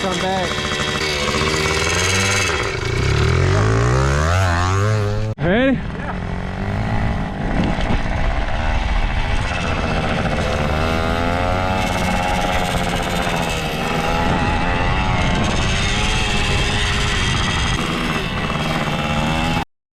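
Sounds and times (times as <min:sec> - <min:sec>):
pit bike engine running: 0:00.0 - 0:19.6.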